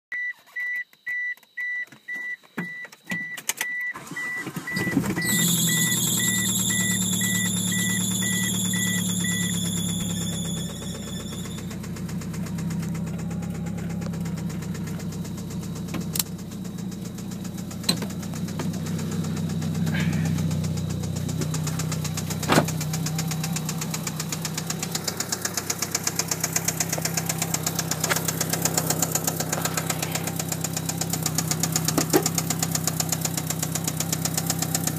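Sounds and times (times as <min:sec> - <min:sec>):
car beeping chime: 0:00.1 - 0:34.9
car engine cranking and starting: 0:03.0 - 0:34.9
engine idling with ticking: 0:03.8 - 0:34.9.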